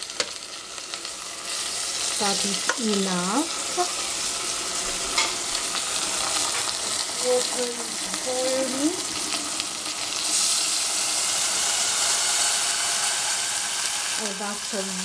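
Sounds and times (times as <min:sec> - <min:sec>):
food sizzling in pots: 0:00.0 - 0:15.0.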